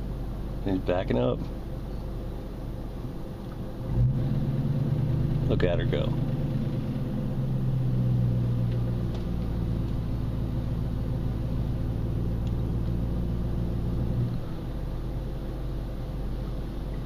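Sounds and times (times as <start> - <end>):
car engine running heard from inside: 0.0 - 17.0.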